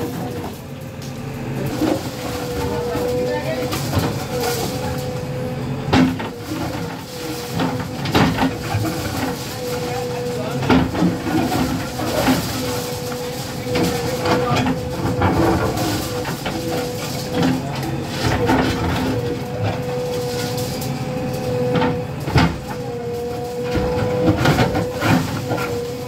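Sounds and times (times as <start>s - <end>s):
backhoe engine whining: 0.0s - 26.0s.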